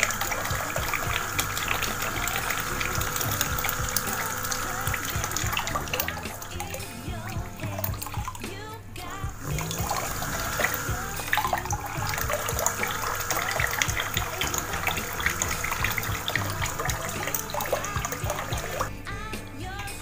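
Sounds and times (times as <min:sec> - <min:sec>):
water splashing and trickling: 0:00.0 - 0:08.4, 0:09.4 - 0:18.9
background music: 0:00.0 - 0:20.0.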